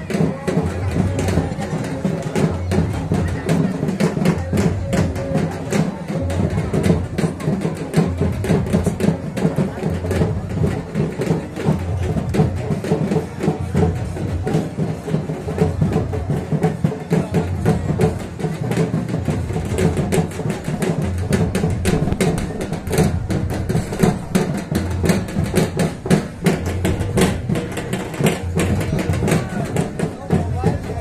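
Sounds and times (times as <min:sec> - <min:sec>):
loud music with fast drum beat: 0:00.0 - 0:31.0.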